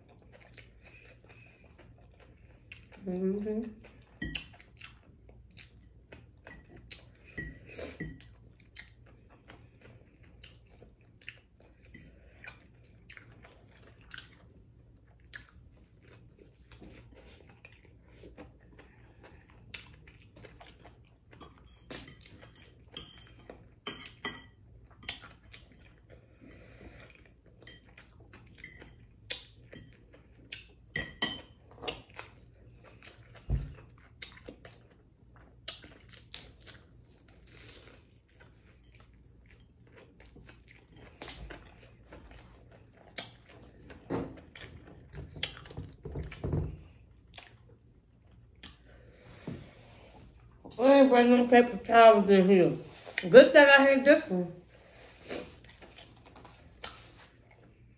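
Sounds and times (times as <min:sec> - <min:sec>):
chewing and wet mouth sounds: 0:00.0 - 0:50.8, 0:54.6 - 0:57.9.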